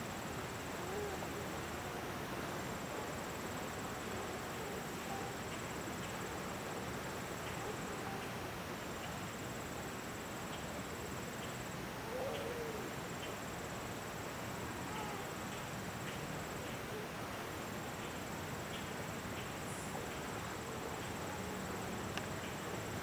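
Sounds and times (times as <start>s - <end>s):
high insect trill: 0.0s - 23.0s
steady hiss: 0.0s - 23.0s.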